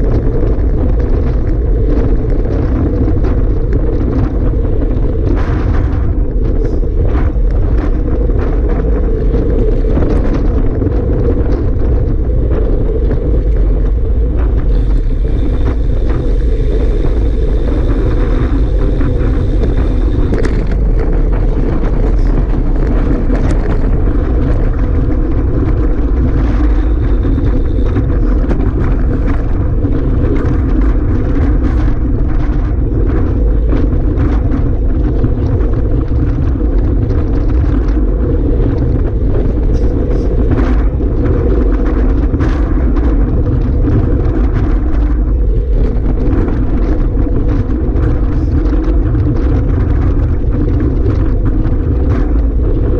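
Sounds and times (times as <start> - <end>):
strong wind buffeting microphone: 0.0 - 52.9.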